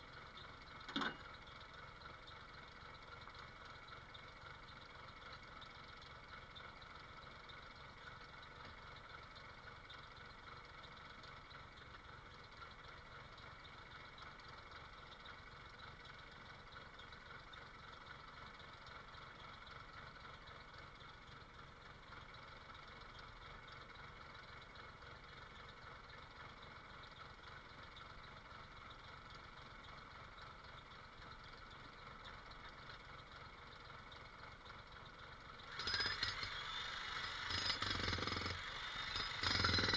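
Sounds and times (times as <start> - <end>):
faint engine idling: 0.0 - 39.9.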